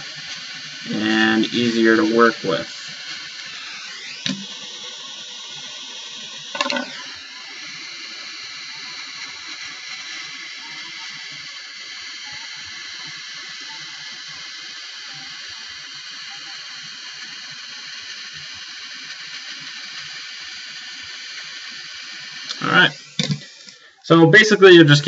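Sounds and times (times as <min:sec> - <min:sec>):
butane torch flame hissing: 0:00.0 - 0:24.5.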